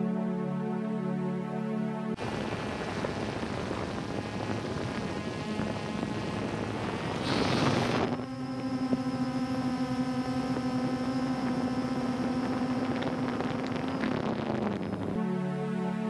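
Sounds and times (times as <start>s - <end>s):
music: 0.0s - 8.2s, 9.2s - 16.0s
drone motors humming: 2.2s - 15.3s.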